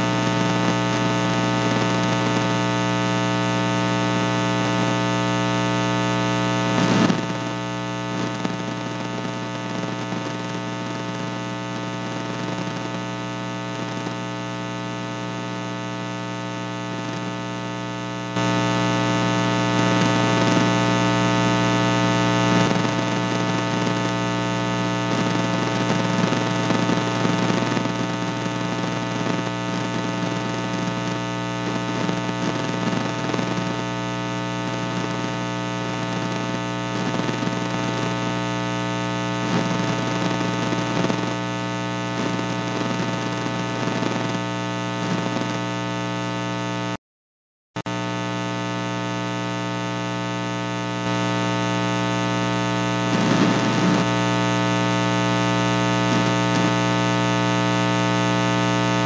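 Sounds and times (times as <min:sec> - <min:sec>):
electrical buzz: 0:00.0 - 0:45.6, 0:47.9 - 0:59.0
static hiss: 0:00.0 - 0:46.4, 0:48.0 - 0:59.0.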